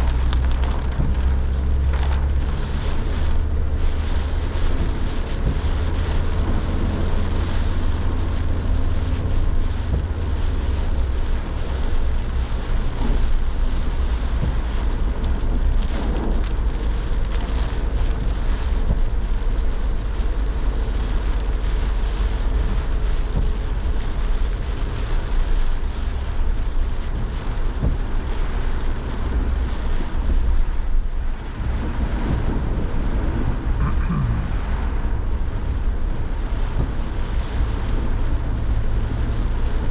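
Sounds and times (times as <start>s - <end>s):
heavy rain pouring: 0.0s - 39.9s
wind buffeting microphone: 0.0s - 39.9s.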